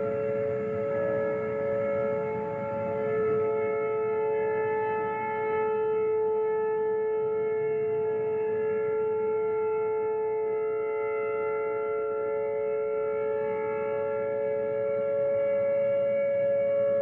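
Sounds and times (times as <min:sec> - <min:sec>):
rotating warning sirens: 0:00.0 - 0:17.0.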